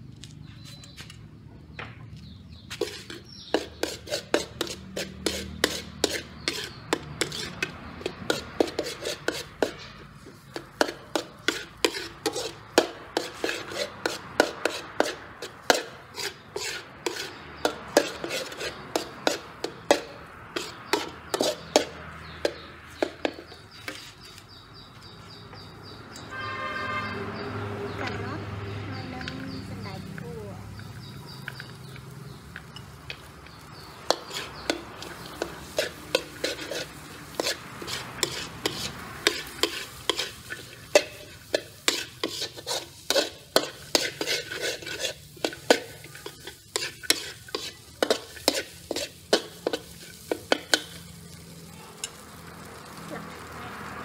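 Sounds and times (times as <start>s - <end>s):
metal spatula scraping a wok: 2.6s - 24.9s, 30.8s - 52.7s.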